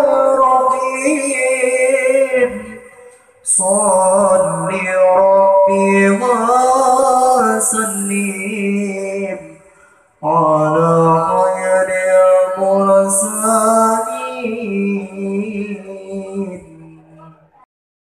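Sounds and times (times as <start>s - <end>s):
man chanting into microphone: 0.0s - 17.6s.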